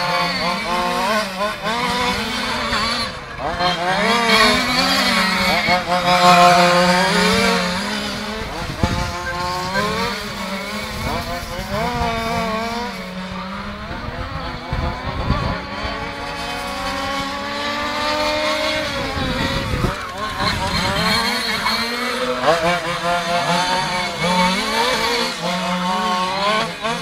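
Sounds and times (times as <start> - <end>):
rc car engines buzzing: 0.0 - 27.0.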